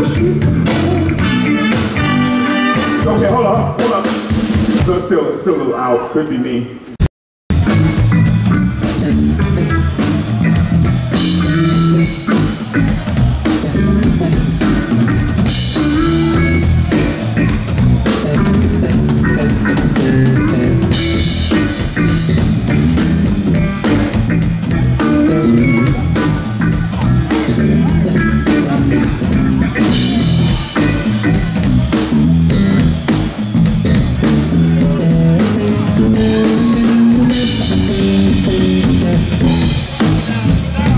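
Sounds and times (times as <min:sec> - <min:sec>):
guitar: 0:00.0 - 0:05.0, 0:07.5 - 0:40.9
drum kit: 0:00.0 - 0:05.3, 0:07.5 - 0:40.9
funk band playing: 0:00.0 - 0:05.6, 0:07.5 - 0:40.9.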